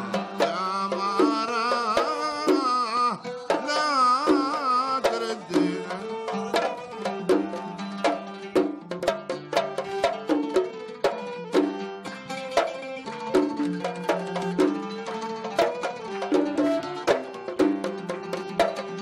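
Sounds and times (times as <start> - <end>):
hand drums beating: 0.0 - 19.0
oud plucking: 0.0 - 19.0
violin melody with vibrato: 0.0 - 19.0.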